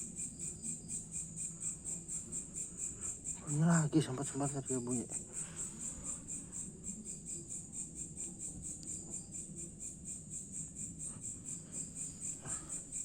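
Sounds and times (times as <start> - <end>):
insect pulsing trill: 0.0 - 13.0.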